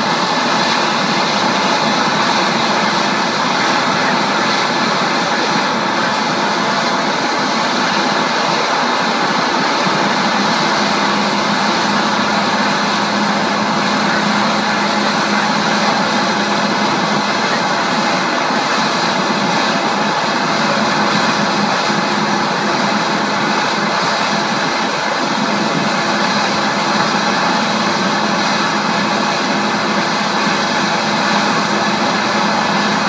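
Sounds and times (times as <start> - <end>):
high jet whine: 0.0 - 33.0
jet engines idling: 0.0 - 33.0.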